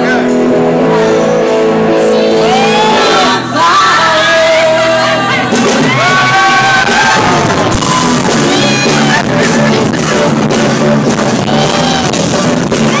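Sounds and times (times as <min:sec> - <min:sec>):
person singing: 0:00.0 - 0:06.6, 0:08.4 - 0:13.0
live rock band playing: 0:00.0 - 0:13.0.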